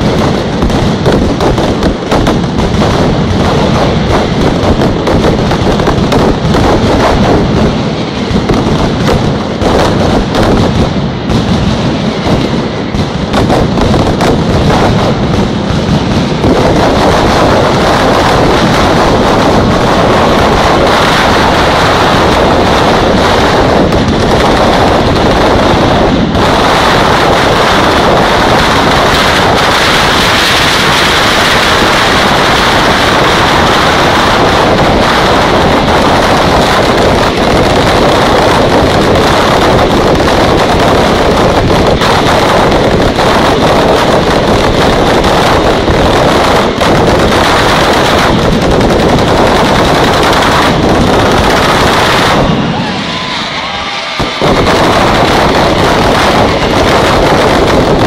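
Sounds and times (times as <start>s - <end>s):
firecrackers exploding in rapid bangs: 0.0s - 58.0s.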